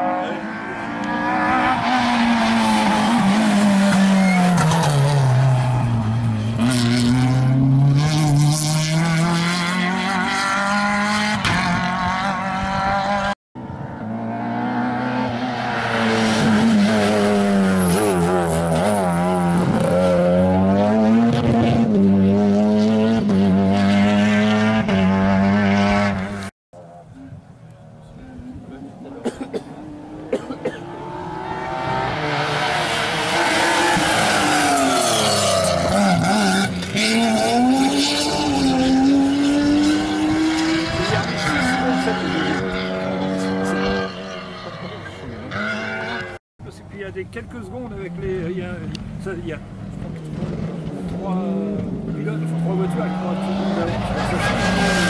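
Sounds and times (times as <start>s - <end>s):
car passing at high revs: 0.0s - 26.5s, 28.9s - 46.4s, 48.0s - 55.0s
rally car engine revving: 0.0s - 26.5s, 28.0s - 46.4s, 48.0s - 55.0s.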